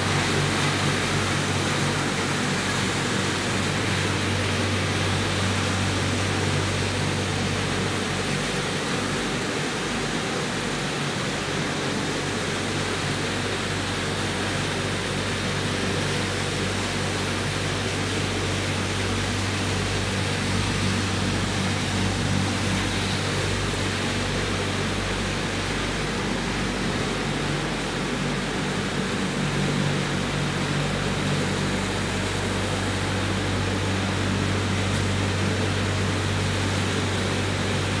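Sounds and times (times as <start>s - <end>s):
constant low hum: 0.0s - 38.0s.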